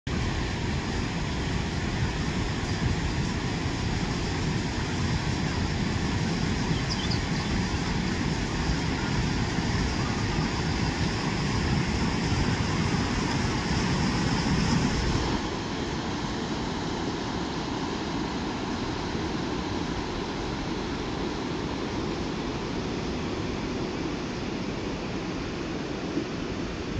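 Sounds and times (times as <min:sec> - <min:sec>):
river rushing: 0:00.1 - 0:26.9.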